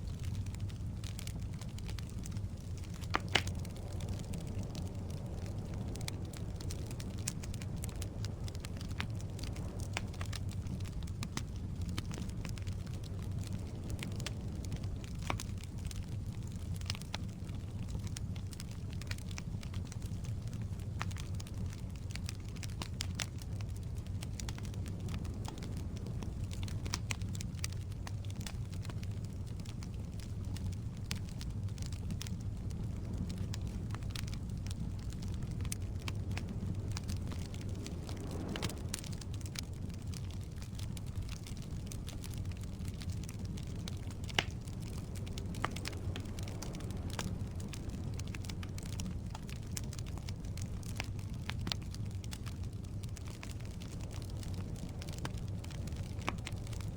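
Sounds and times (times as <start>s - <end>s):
firewood crackling and popping: 0.0s - 56.9s
low rumble of flames: 0.0s - 56.9s.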